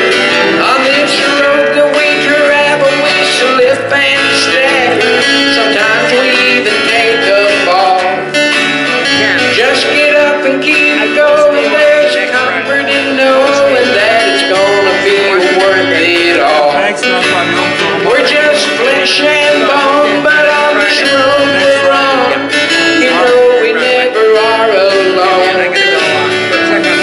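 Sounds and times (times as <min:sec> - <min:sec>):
man singing a hymn: 0:00.0 - 0:08.4, 0:09.0 - 0:27.0
country-style instrumental music: 0:00.0 - 0:27.0.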